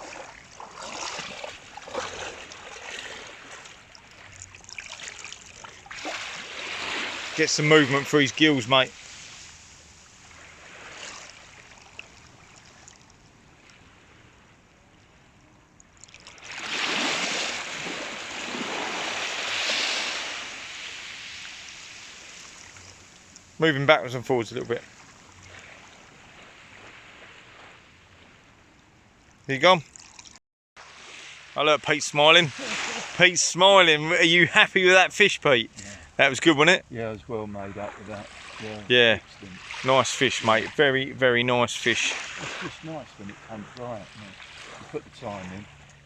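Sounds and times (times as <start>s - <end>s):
surf washing in: 0.0s - 12.9s, 16.3s - 28.2s, 30.8s - 36.8s, 37.4s - 45.8s
small waves sloshing: 0.0s - 36.7s, 37.4s - 46.0s.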